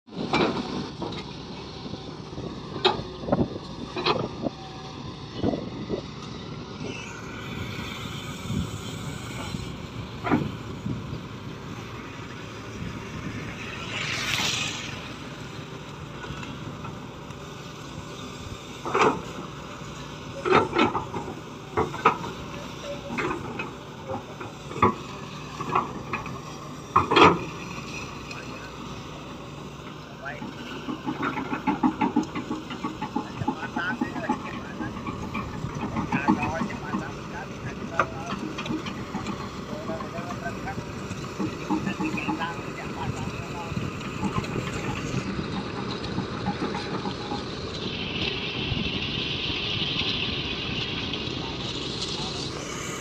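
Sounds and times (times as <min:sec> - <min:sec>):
excavator diesel engine running: 0:00.1 - 0:53.0.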